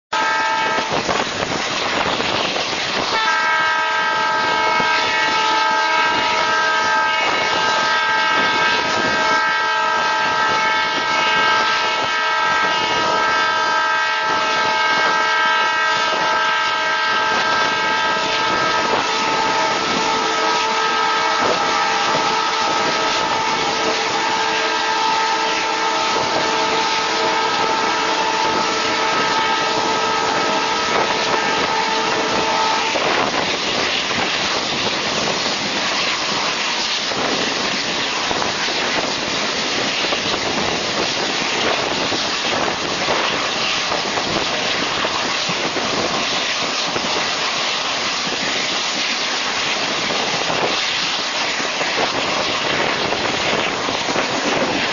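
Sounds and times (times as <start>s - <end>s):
passing goods train: 0.0s - 54.9s
train wheel and wind rush: 0.0s - 54.9s
locomotive horn: 0.1s - 46.2s.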